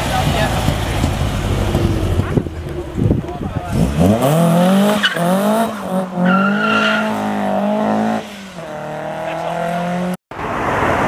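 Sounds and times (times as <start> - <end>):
car engine revving: 0.0 - 10.2
traffic noise: 0.0 - 11.0.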